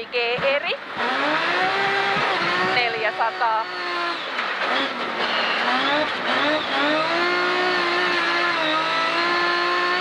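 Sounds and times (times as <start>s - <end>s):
rally car engine at full throttle: 0.0s - 10.0s.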